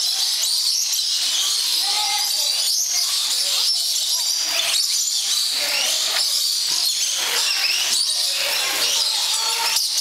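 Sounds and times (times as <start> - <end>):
parrots chattering and screeching: 0.0 - 10.0
running water: 0.8 - 10.0.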